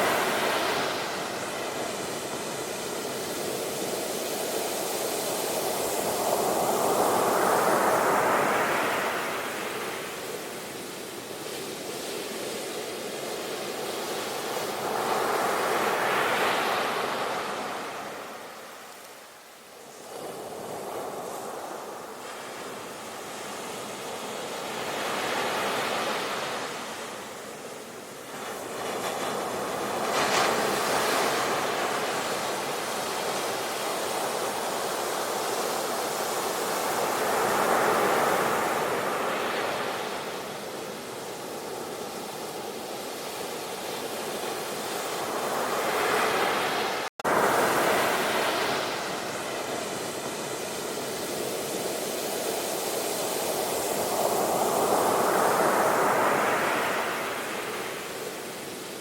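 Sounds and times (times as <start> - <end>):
sea waves surging: 0.0 - 59.0.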